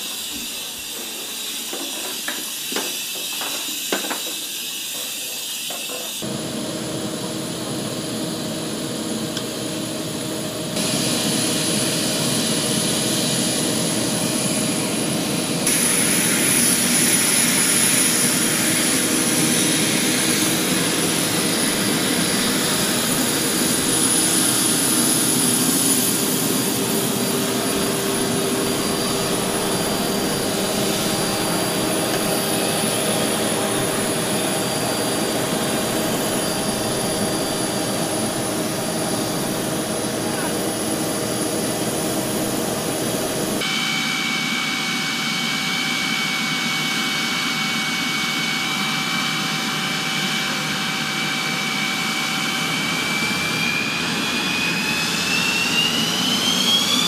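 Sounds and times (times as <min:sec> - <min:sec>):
jet turbine roar and whine: 0:00.0 - 0:57.0.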